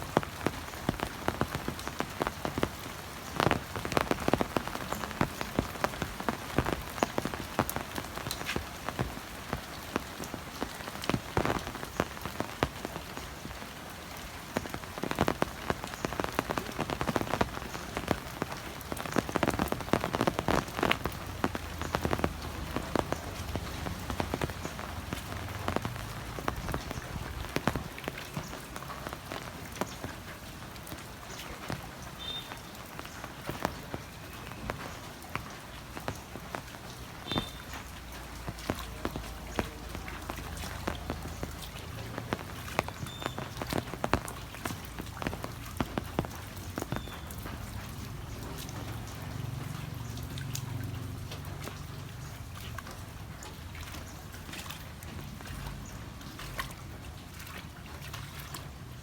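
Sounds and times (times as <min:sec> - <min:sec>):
heavy rain falling: 0:00.0 - 0:59.0
large raindrops pattering: 0:00.0 - 0:59.0.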